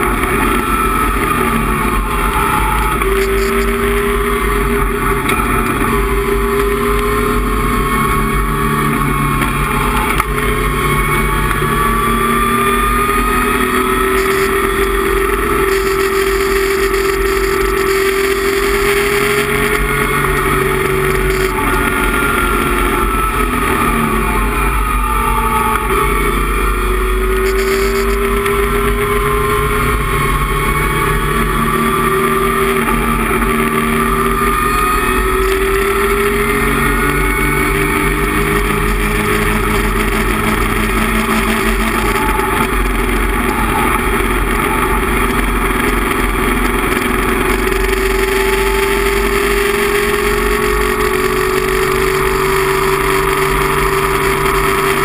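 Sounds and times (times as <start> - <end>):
race car engine running hard: 0.0 - 55.0
road and wind noise: 0.0 - 55.0.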